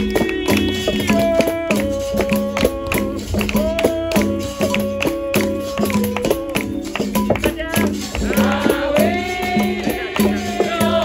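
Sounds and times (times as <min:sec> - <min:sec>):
berimbau playing: 0:00.0 - 0:11.0
pandeiro strikes: 0:00.0 - 0:11.0.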